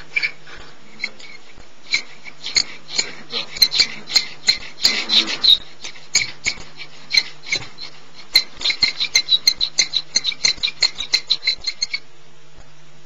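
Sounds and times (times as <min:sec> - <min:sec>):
diamond grinding squeaks and clicks: 0:00.0 - 0:12.7.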